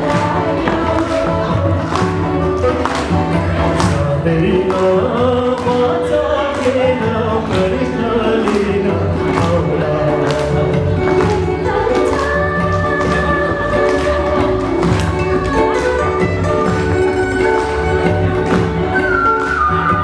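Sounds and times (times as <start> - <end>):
double bass: 0.0 - 20.0
person singing: 0.0 - 20.0.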